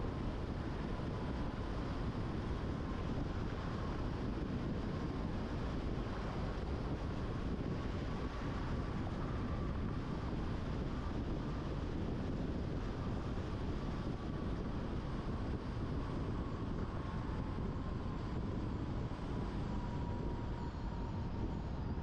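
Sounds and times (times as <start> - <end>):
faint whine: 0.0 - 22.0.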